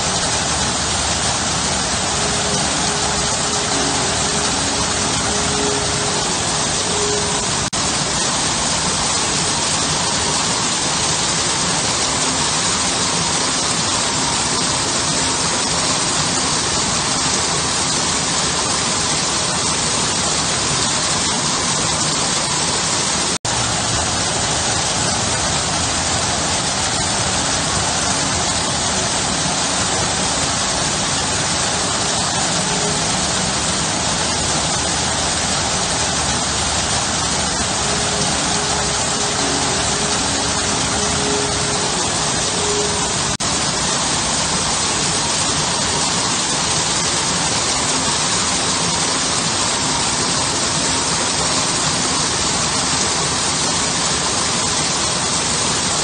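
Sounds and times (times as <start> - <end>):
waterfall splashing into pool: 0.0 - 56.0.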